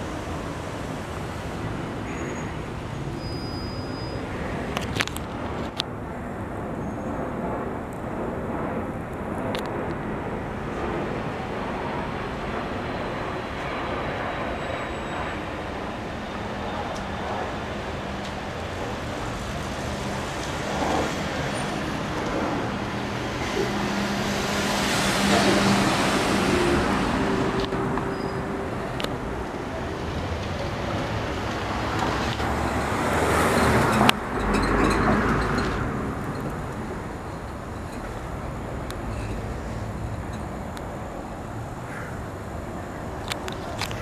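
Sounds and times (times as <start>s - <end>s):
road traffic passing: 0.0s - 44.0s.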